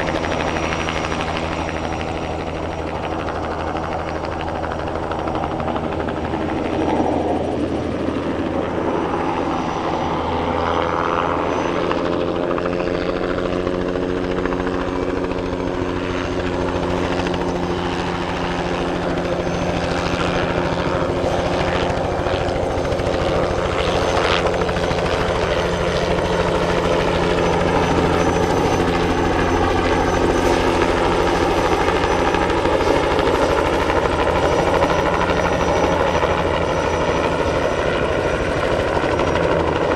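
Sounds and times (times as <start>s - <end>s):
helicopter rotor beat: 0.0s - 39.9s
turbine engine whine: 0.0s - 39.9s.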